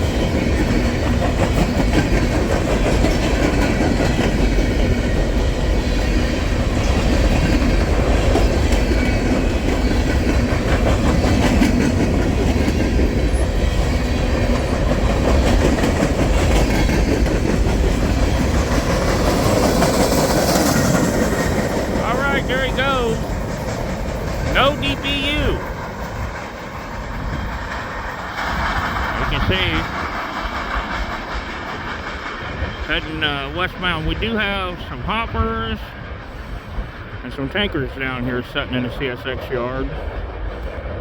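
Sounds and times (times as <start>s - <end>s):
wheels clacking over rail joints: 0.0s - 34.8s
train wheels rumbling on rail: 0.0s - 41.0s.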